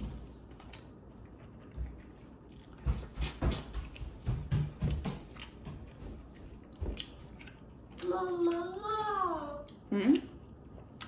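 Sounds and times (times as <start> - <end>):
chewing corn on the cob: 0.5 - 4.2, 5.3 - 11.0.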